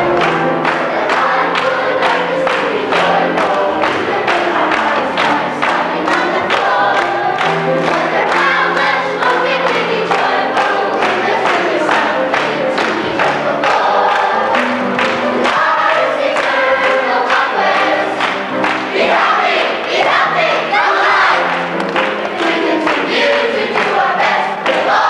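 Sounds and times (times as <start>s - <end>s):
group singing: 0.0s - 25.0s.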